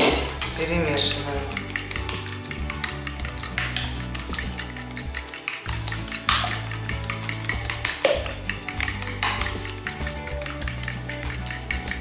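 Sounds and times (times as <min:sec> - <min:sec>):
background music with steady beat: 0:00.0 - 0:12.0
metal spoon stirring in glass bowl: 0:00.0 - 0:12.0.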